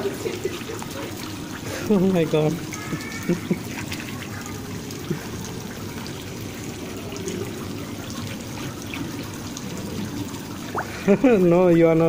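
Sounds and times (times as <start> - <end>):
water trickling in a pool: 0.0 - 12.0.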